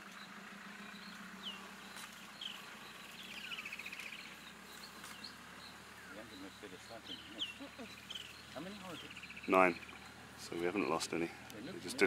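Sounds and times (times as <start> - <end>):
high chirping animal calls: 0.8 - 11.0.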